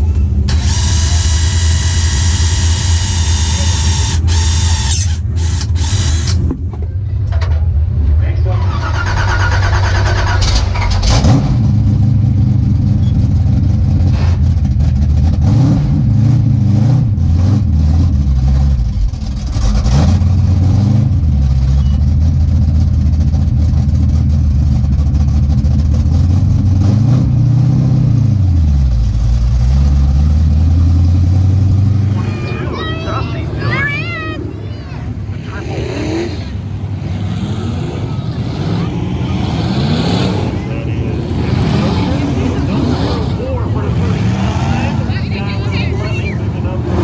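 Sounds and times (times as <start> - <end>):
race car engine idling and revving: 0.0 - 47.0.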